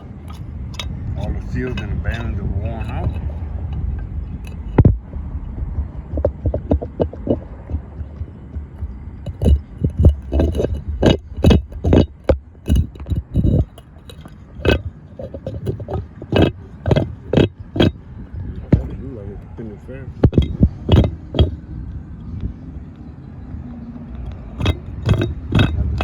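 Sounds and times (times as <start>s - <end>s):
metallic clinks and scrapes: 0.0s - 21.6s, 24.1s - 26.0s
low steady hum: 0.0s - 26.0s.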